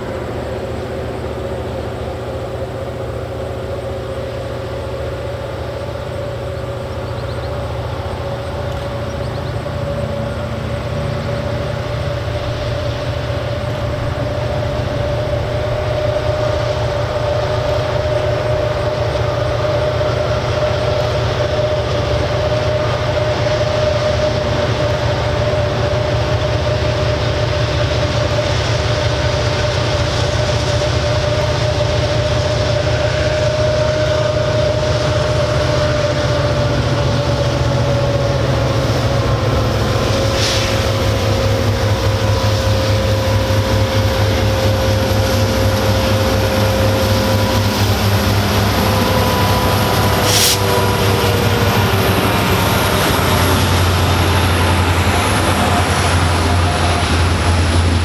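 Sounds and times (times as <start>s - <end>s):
locomotive engine rumble: 0.0s - 58.0s
steady whine: 0.0s - 58.0s.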